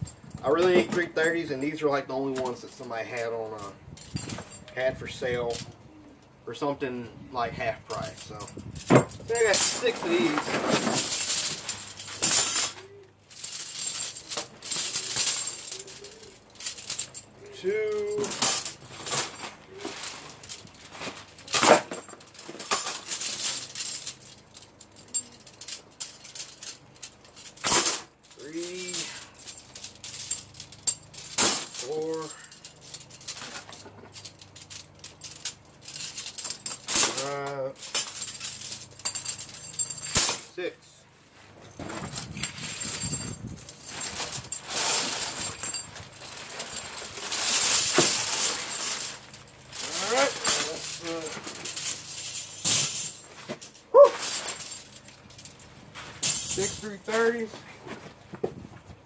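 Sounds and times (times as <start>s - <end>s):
metal chains clinking: 0.0s - 5.7s, 7.9s - 40.6s, 41.6s - 57.6s.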